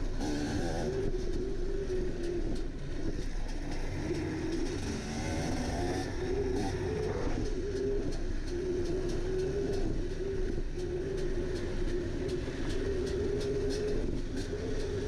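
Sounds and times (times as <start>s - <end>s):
motorcycle engine running: 0.0s - 15.0s
wind rumble on microphone: 0.0s - 15.0s
faint ticks: 0.1s - 15.0s.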